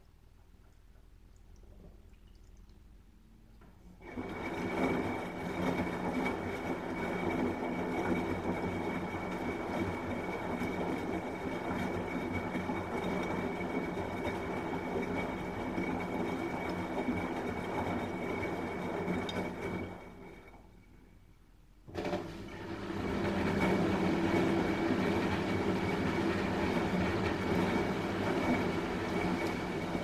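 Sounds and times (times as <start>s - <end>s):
washing machine drum humming: 3.6s - 20.6s, 21.8s - 30.0s.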